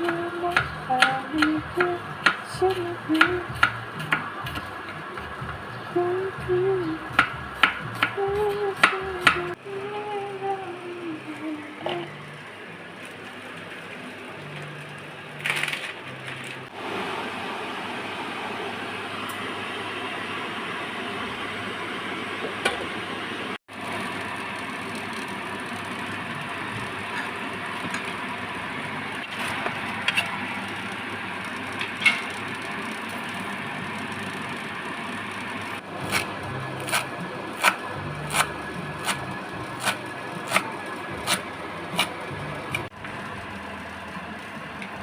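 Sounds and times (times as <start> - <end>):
cooking hiss: 0.0 - 45.0.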